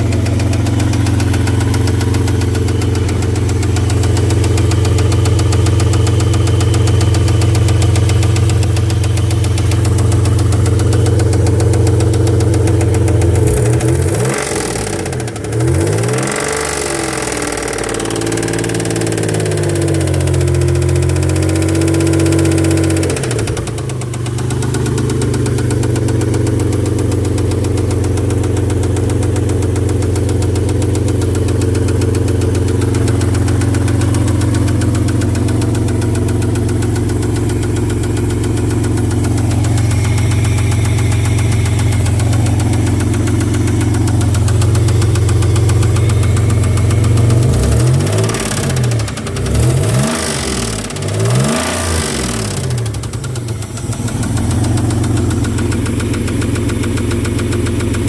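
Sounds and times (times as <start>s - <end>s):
car engine idling with a knock: 0.0s - 16.0s, 17.1s - 49.9s, 52.2s - 58.0s
car engine revving: 0.0s - 58.0s.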